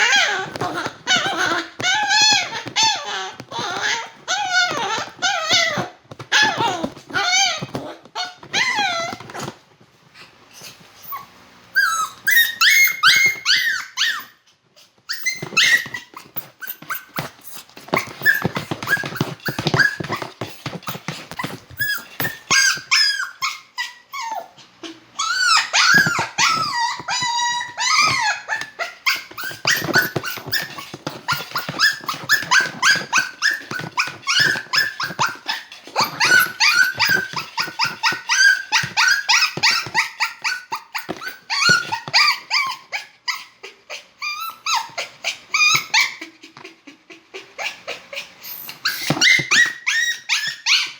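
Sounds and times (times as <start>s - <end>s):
dog whining: 0.0s - 9.6s, 10.6s - 14.4s, 15.1s - 50.9s.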